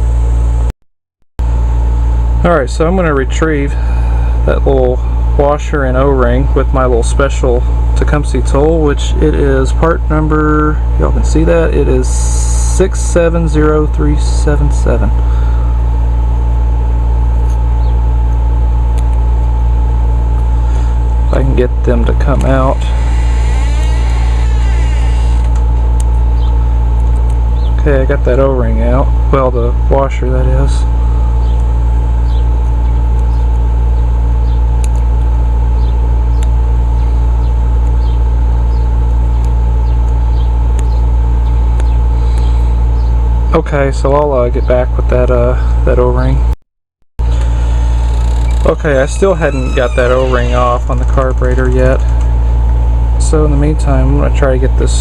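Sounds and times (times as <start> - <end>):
low machine hum: 0.0 - 0.7, 1.4 - 46.6, 47.2 - 55.0.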